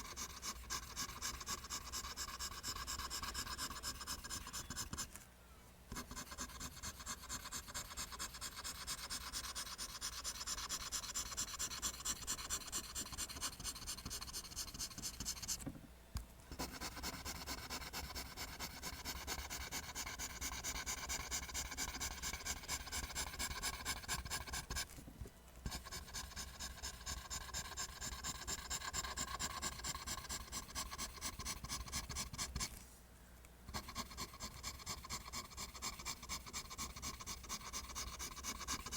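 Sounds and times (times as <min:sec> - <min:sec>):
pencil scratching on paper: 0:00.0 - 0:05.2, 0:05.9 - 0:15.6, 0:16.5 - 0:25.0, 0:25.7 - 0:32.8, 0:33.7 - 0:38.9.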